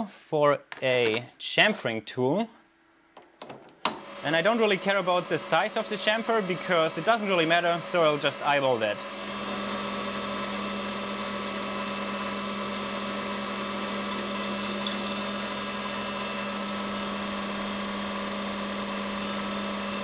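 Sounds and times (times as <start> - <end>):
metal lathe cutting aluminium: 4.0 - 20.0.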